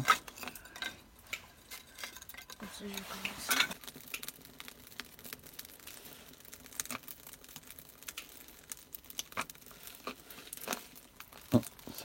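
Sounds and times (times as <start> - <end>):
kindling crackling and rustling: 0.0 - 12.0.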